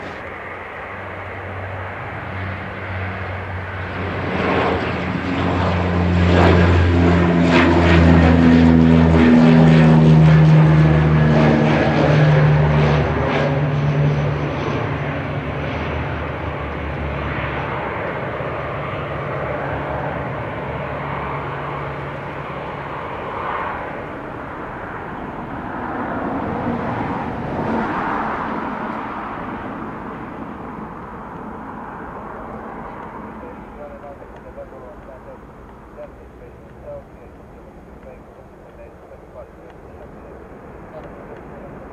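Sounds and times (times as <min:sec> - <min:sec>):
turboprop aircraft droning: 0:00.0 - 0:41.9.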